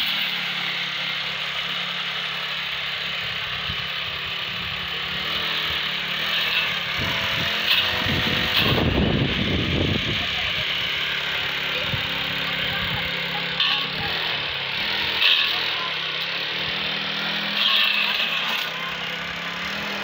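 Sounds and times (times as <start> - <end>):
brush cutter engine running: 0.0 - 20.0
cutting head whirring: 0.0 - 20.0.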